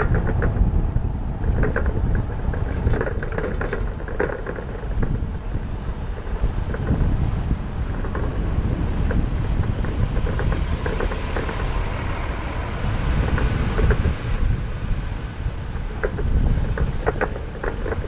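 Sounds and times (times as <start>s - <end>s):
bus engine and road rumble: 0.0s - 18.0s
small rattles and clicks: 0.0s - 18.0s.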